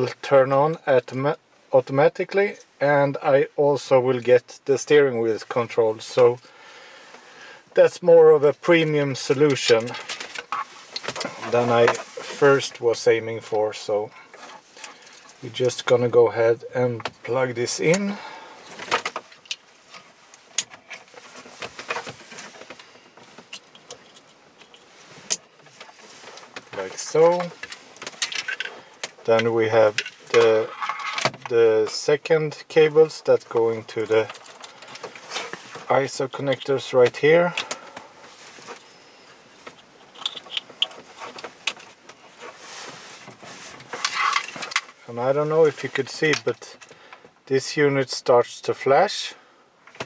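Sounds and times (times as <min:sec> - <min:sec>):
wires and connectors rustling: 0:07.1 - 0:49.1.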